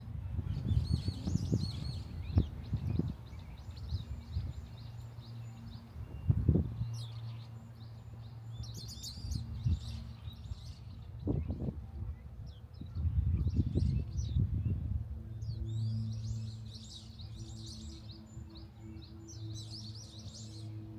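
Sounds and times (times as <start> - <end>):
small birds chirping: 0.5 - 14.8, 15.4 - 20.9.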